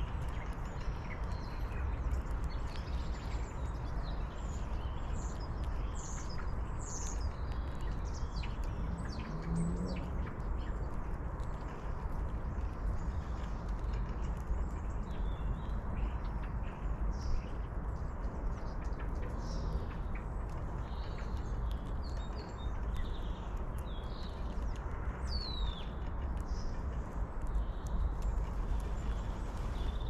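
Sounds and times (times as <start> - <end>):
low outdoor rumble: 0.0 - 30.0
small birds chirping: 0.0 - 30.0.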